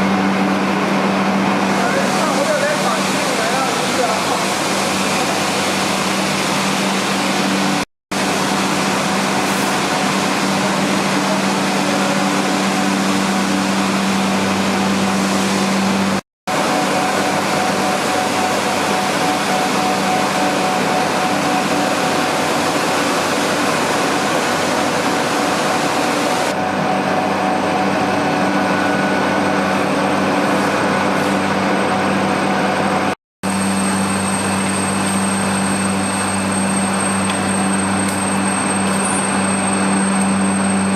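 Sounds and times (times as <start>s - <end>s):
machinery humming and whirring: 0.0s - 40.9s.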